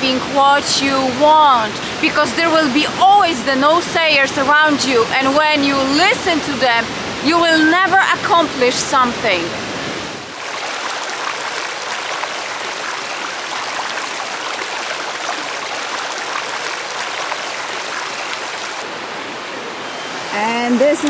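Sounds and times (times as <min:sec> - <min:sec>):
water rushing over rocks: 0:00.0 - 0:20.2.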